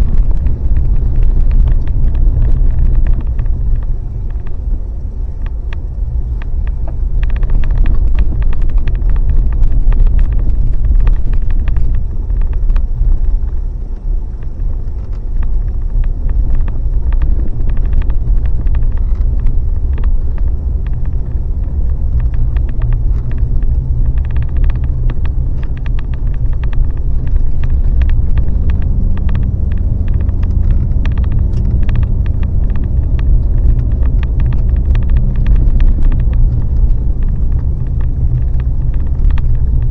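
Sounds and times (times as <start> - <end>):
road rumble inside vehicle: 0.0 - 39.9
small clicks and rattles: 0.0 - 39.9.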